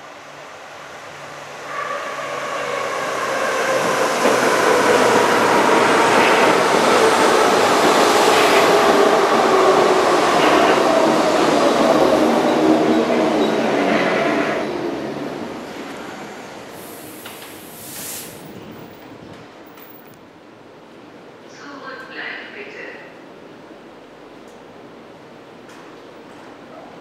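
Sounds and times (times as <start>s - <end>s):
train rumbling: 0.0s - 22.5s.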